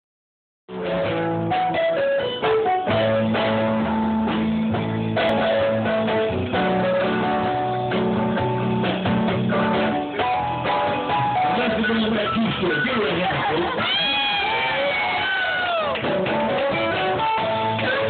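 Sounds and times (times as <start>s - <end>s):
keyboard dance music: 0.7s - 18.0s.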